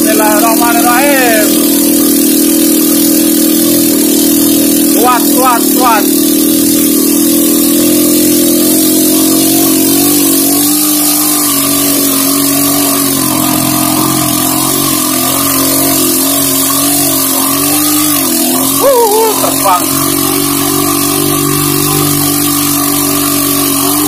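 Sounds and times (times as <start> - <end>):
motorcycle engine under load: 0.0 - 24.0.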